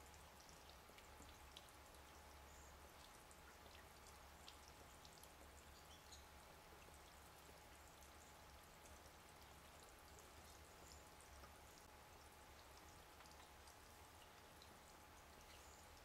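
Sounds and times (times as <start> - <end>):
faint high-pitched ticks: 0.0 - 16.0
low steady hum: 0.0 - 16.0.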